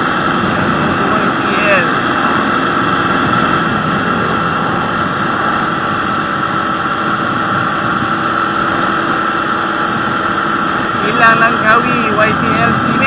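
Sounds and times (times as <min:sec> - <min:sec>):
scooter engine running: 0:00.0 - 0:13.0
wind over microphone: 0:00.0 - 0:13.0.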